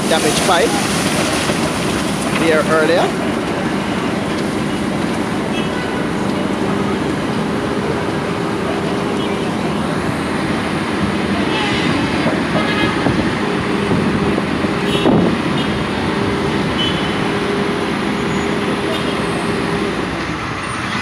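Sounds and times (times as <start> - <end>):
engine hum: 0.0 - 21.0
road traffic passing: 0.0 - 21.0.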